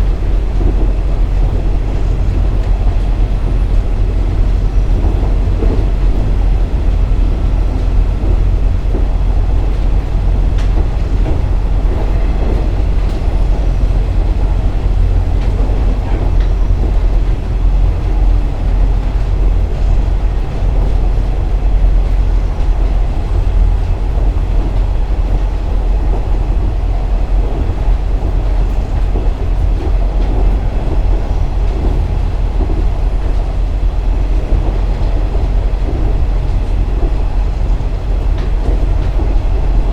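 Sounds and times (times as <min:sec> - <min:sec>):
diesel railcar running: 0:00.0 - 0:39.9.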